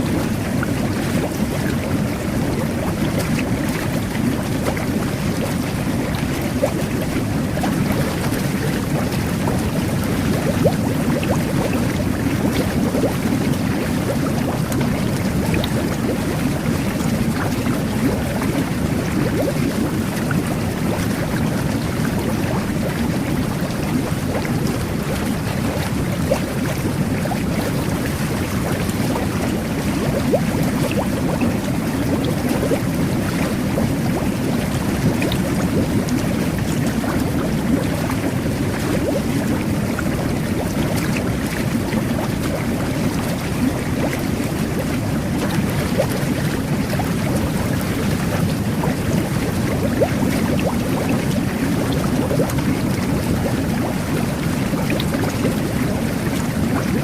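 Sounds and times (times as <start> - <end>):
whirlpool tub water churning: 0.0 - 57.0.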